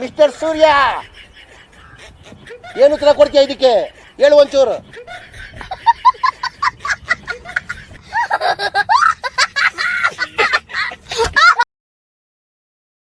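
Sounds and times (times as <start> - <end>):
person snickering and giggling: 0.5 - 11.7.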